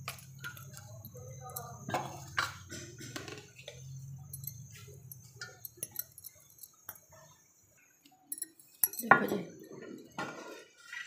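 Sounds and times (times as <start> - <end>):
food mixed in metal bowl: 0.0 - 11.0.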